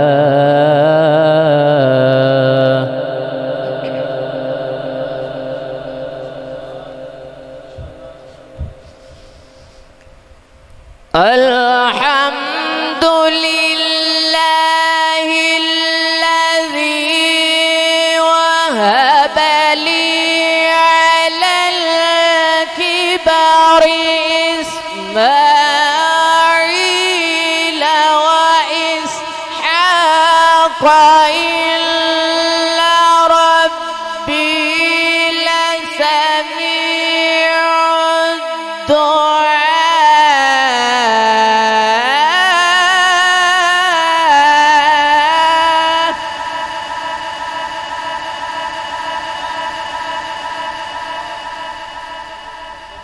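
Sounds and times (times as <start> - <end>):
man chanting into microphone: 0.0 - 9.7, 11.1 - 52.9.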